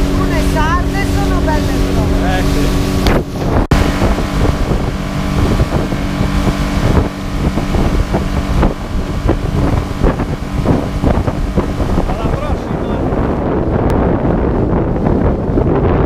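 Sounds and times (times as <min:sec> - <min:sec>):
outboard motor running: 0:00.0 - 0:16.0
water rushing along hull: 0:00.0 - 0:16.0
wind buffeting microphone: 0:00.0 - 0:16.0.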